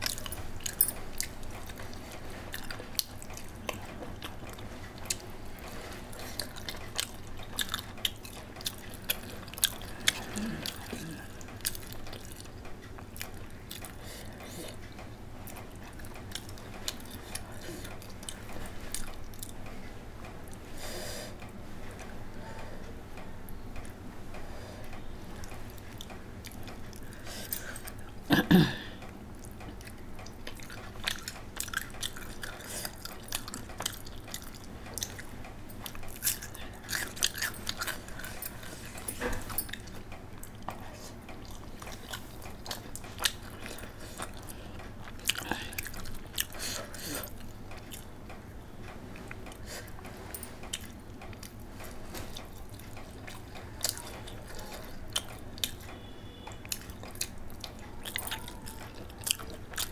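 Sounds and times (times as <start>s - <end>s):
person chewing food: 0.0s - 22.6s, 23.5s - 59.9s.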